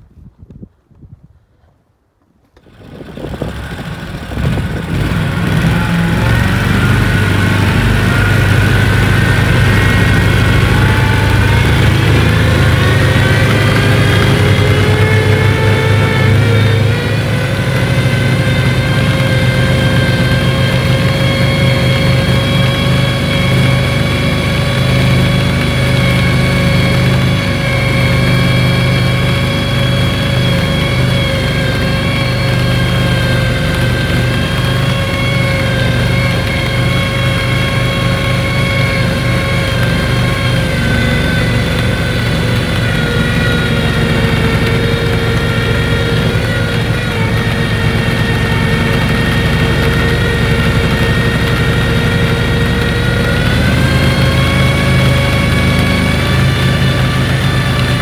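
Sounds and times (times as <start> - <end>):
tracked vehicle engine rumbling: 0.0 - 58.0.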